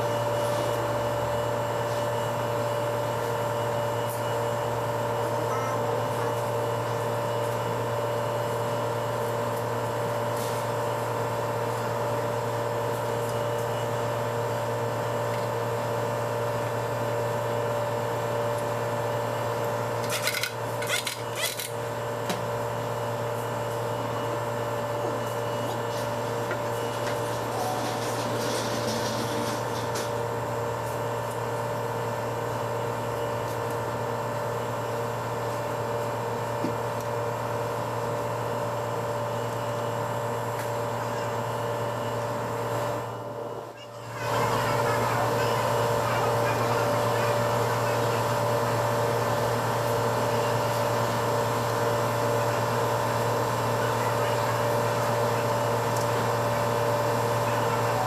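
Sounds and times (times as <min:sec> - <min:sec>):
mechanical hum: 0:00.0 - 0:58.0.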